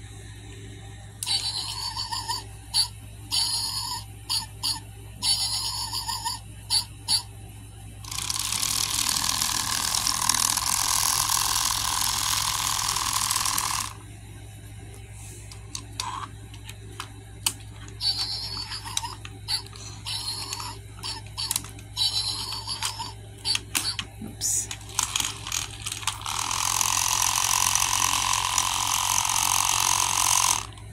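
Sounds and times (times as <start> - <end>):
toy gear motor whirring: 1.2 - 7.3, 8.0 - 14.0, 15.7 - 30.9.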